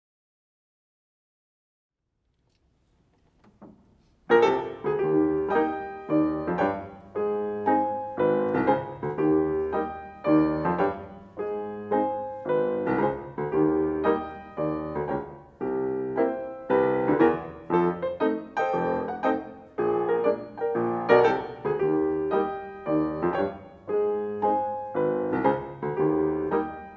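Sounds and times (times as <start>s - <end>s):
ragtime piano: 4.3s - 26.9s.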